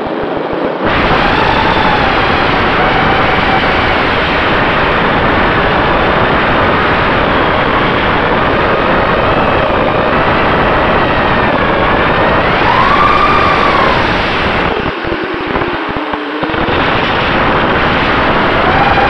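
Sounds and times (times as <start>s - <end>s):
drone propellers whining: 0.0s - 19.0s
rush of air: 0.0s - 19.0s.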